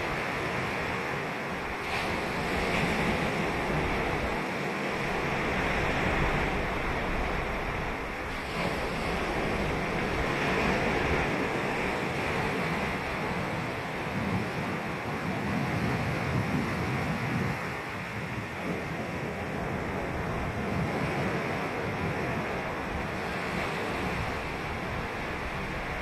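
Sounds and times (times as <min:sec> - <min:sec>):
surf breaking on beach: 0:00.0 - 0:26.0
wind on microphone: 0:00.0 - 0:26.0.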